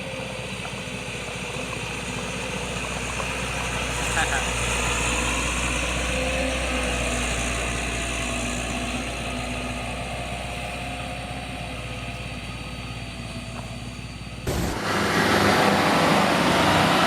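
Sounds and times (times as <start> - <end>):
dump truck engine running: 0.0 - 17.0.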